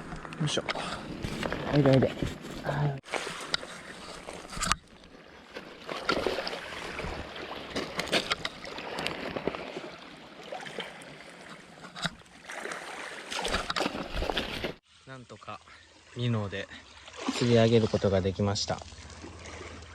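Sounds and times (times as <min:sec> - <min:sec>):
water splashing and sloshing: 0:00.0 - 0:19.9.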